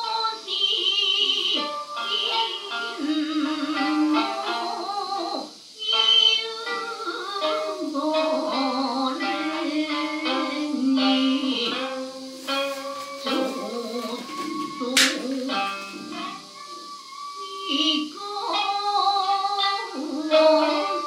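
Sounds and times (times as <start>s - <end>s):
person singing long wavering notes: 0.0s - 21.0s
plucked shamisen notes: 1.5s - 21.0s.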